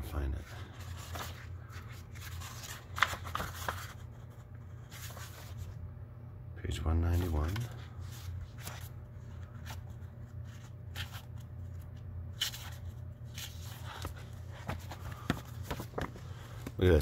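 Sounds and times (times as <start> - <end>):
book pages rustling: 0.6 - 5.8, 7.1 - 17.0.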